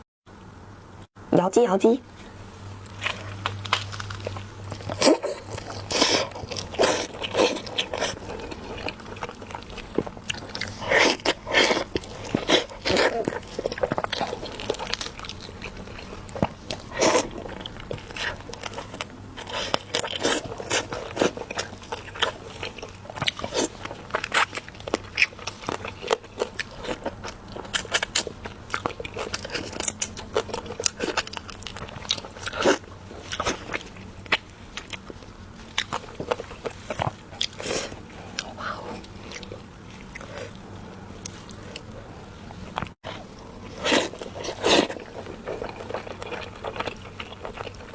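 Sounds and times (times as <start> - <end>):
person chewing: 2.8 - 47.9.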